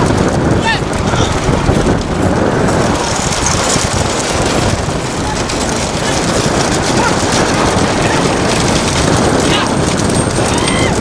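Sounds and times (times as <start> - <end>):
road and wind noise: 0.0 - 11.0
vehicle engine running: 0.0 - 11.0.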